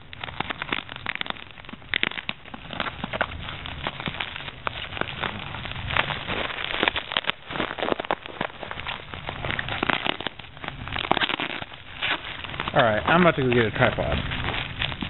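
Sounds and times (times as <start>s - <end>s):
bubble wrap crinkling and crackling: 0.0s - 15.0s.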